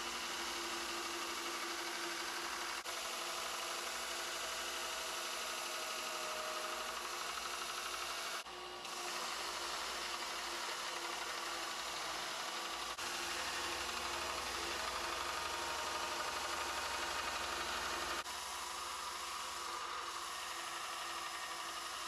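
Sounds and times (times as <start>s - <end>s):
grinder grinding steel: 0.0s - 22.0s.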